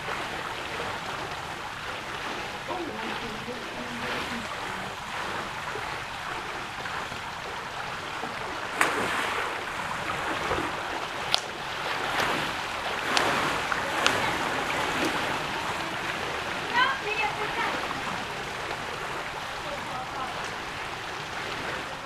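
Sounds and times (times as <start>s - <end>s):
arm strokes slapping water: 0.0s - 22.0s
moving water wash: 0.0s - 22.0s.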